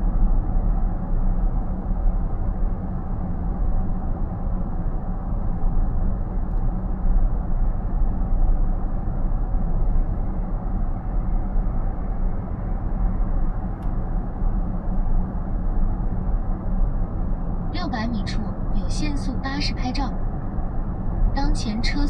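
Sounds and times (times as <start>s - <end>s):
road and tyre rumble in car: 0.0s - 22.0s.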